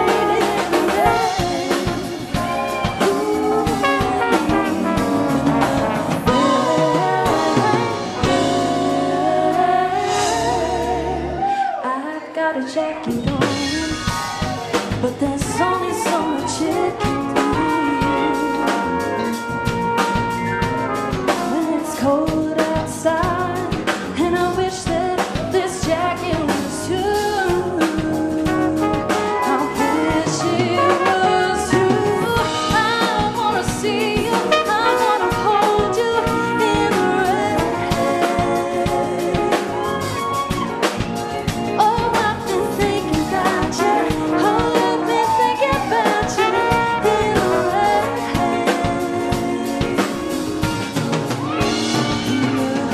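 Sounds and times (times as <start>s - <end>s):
drum kit: 0.0s - 11.8s, 13.1s - 52.9s
flugelhorn: 0.0s - 11.8s, 15.6s - 22.6s, 27.2s - 41.6s, 42.8s - 52.9s
woman singing lead: 0.0s - 52.9s.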